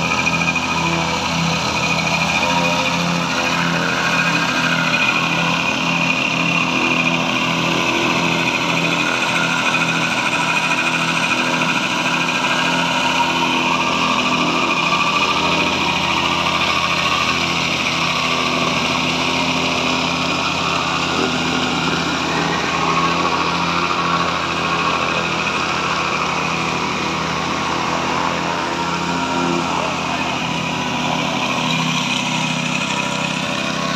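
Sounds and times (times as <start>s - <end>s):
plate compactor running: 0.0s - 33.9s.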